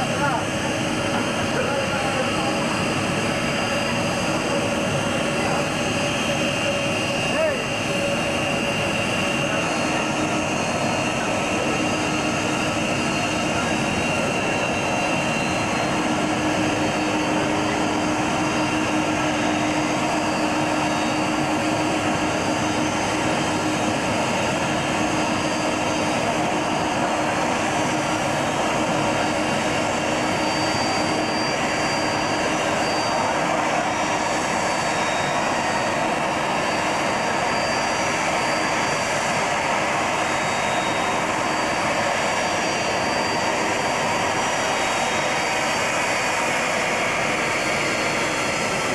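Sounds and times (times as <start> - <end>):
jet engines at taxi power: 0.0 - 48.9.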